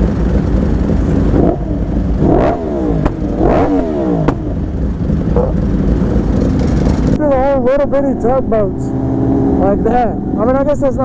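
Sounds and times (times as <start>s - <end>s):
riding noise rumble: 0.0s - 11.0s
sport bike engine revving: 0.0s - 11.0s.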